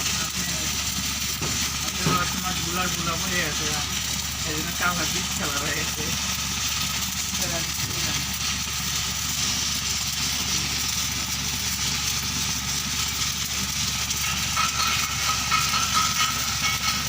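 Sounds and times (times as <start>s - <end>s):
welding set humming and hissing: 0.0s - 17.0s.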